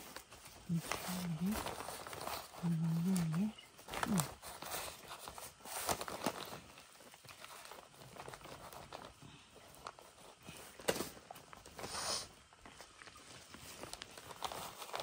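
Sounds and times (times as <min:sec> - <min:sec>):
plastic film crinkling: 0:00.0 - 0:15.0.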